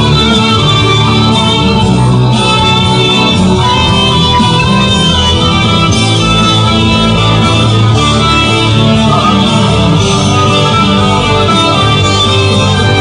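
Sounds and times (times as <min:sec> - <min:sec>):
live band playing with guitar: 0:00.0 - 0:13.0.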